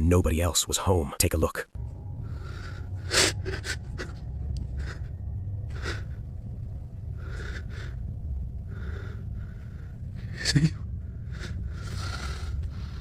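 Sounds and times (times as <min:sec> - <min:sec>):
low microphone rumble: 0:01.8 - 0:13.0
man breathing nervously: 0:01.8 - 0:13.0.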